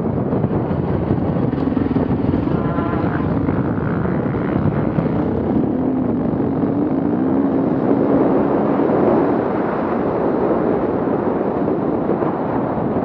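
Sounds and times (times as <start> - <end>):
steady rush of noise: 0.0 - 13.0.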